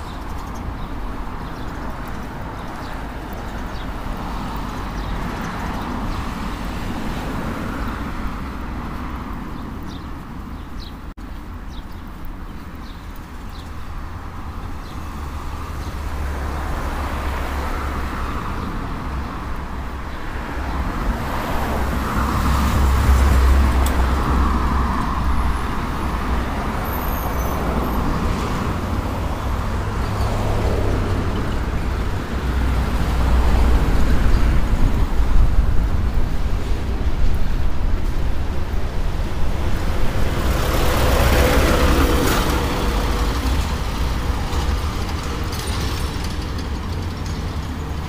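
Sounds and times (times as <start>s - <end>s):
cars passing: 0.0s - 48.0s
low traffic rumble: 0.0s - 48.0s.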